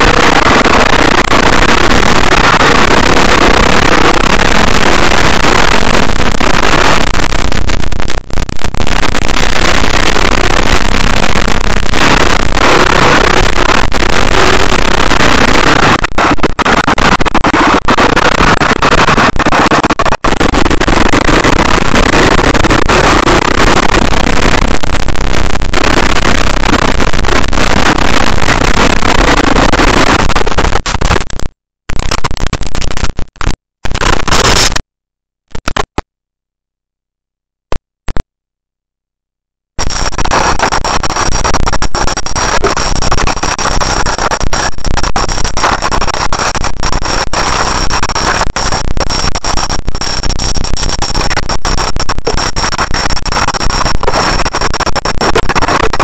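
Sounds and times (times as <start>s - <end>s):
steady high whine: 0.0s - 31.3s, 39.8s - 56.0s.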